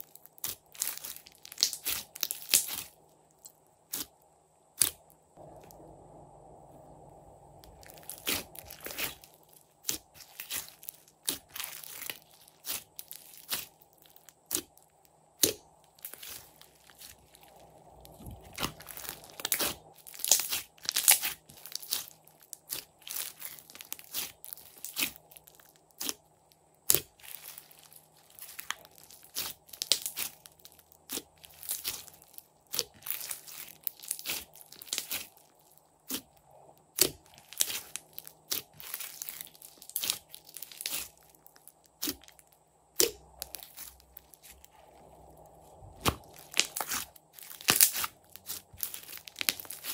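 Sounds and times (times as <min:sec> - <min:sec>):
slime crunching and crackling: 0:00.0 - 0:05.8, 0:07.6 - 0:49.9.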